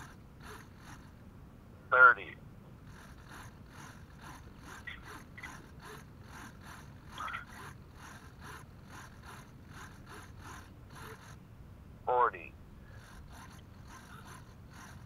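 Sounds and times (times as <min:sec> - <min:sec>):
small servos whirring: 0:00.0 - 0:01.4, 0:02.7 - 0:11.5, 0:12.7 - 0:15.0.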